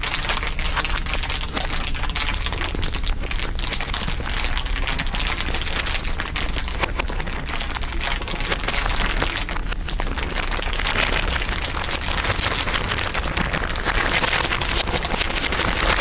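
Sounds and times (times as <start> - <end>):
crinkling crackle: 0.0 - 16.0.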